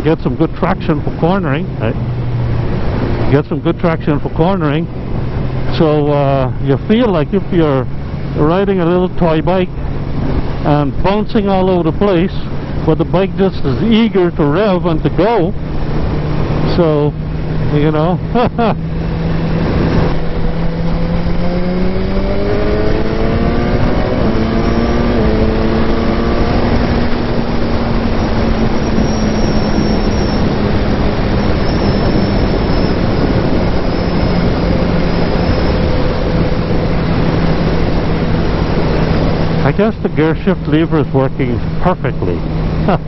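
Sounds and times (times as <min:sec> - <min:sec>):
motorcycle engine running: 0:00.0 - 0:43.0
wind noise on microphone: 0:00.0 - 0:43.0.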